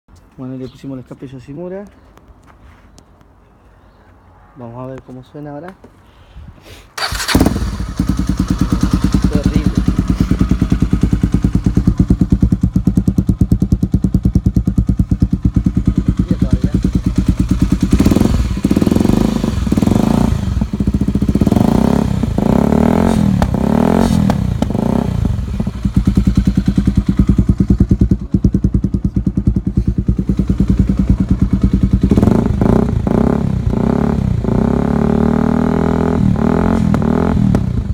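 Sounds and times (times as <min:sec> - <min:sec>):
motorcycle engine idling and revving: 0:07.0 - 0:37.9.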